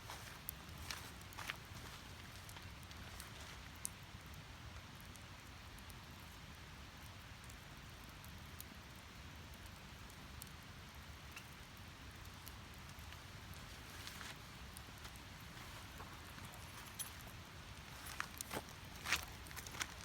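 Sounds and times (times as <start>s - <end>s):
firewood crackling and popping: 0.0s - 20.0s
low background noise: 0.0s - 20.0s.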